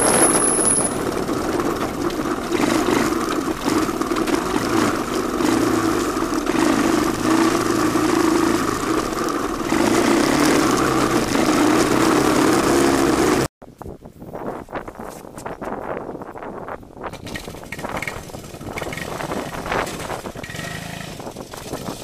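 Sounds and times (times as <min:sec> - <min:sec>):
three-wheeler engine running: 0:00.0 - 0:13.5, 0:17.0 - 0:22.0.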